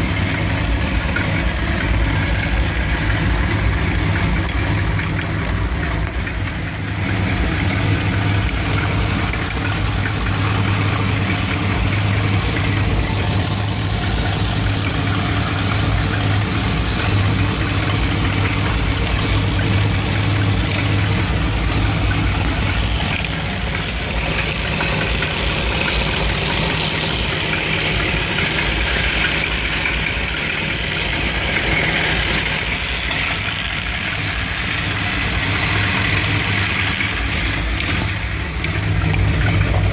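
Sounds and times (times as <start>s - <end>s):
engine idling roughly: 0.0s - 39.9s.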